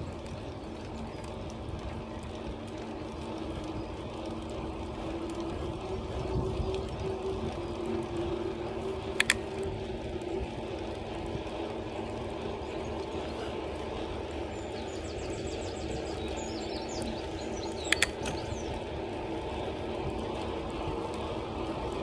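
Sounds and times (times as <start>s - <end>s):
bicycle tyres rolling on tarmac: 0.0s - 22.0s.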